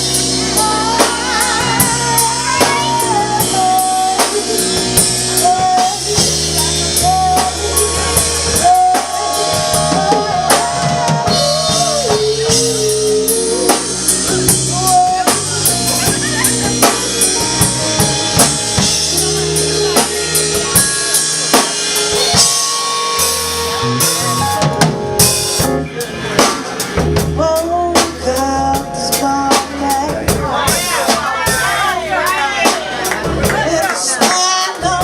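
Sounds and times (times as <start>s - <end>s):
bass notes: 0.0s - 35.0s
drum kit beat: 0.0s - 35.0s
melodic lead line with vibrato: 0.0s - 35.0s.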